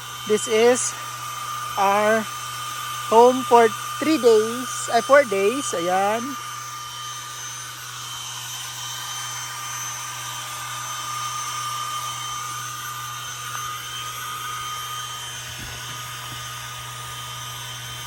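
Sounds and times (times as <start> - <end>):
small electric motor whirring: 0.0 - 18.0.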